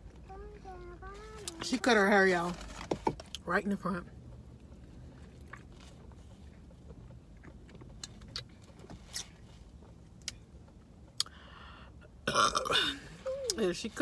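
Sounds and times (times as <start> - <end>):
car interior hum: 0.0 - 14.0.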